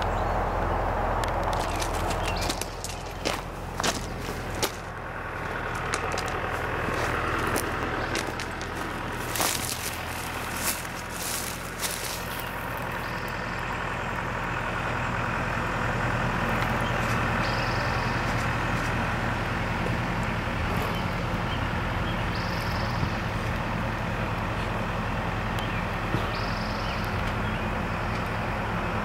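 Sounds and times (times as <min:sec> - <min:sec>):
freight train rumbling: 0:00.0 - 0:29.0.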